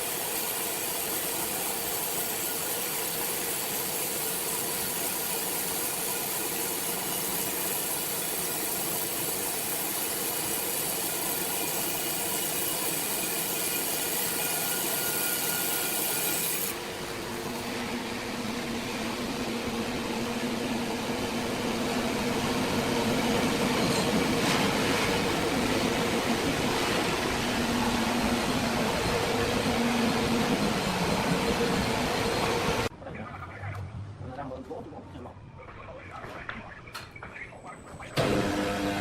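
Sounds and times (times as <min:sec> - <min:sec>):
sawmill machinery hissing: 0:00.0 - 0:32.9.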